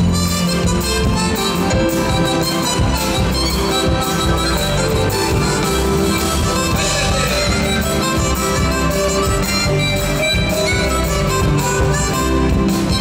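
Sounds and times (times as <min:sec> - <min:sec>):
harmonica melody: 0:00.0 - 0:13.0
live folk band with bass: 0:00.0 - 0:13.0.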